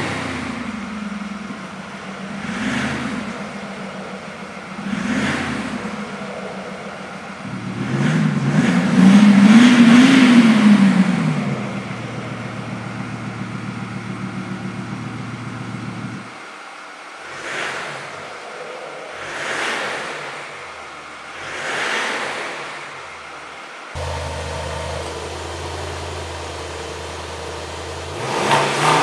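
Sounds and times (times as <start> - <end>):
car engine revving and idling: 0.0 - 29.0
rushing noise: 0.0 - 29.0.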